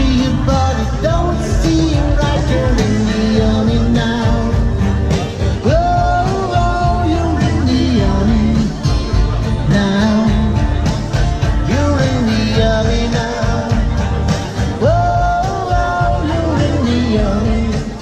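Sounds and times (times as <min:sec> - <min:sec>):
acoustic guitar strumming: 0:00.0 - 0:18.0
man singing into a microphone: 0:00.0 - 0:18.0.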